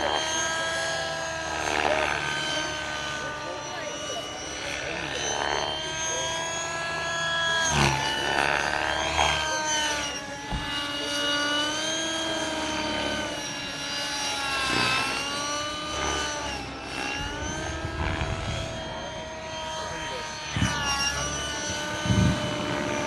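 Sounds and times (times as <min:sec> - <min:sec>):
model helicopter motor whine: 0:00.0 - 0:23.0.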